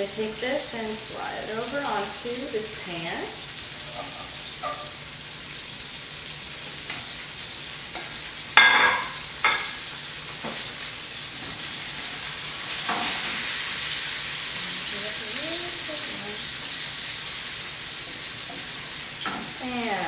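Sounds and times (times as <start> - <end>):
food sizzling in frying pans: 0.0 - 20.0.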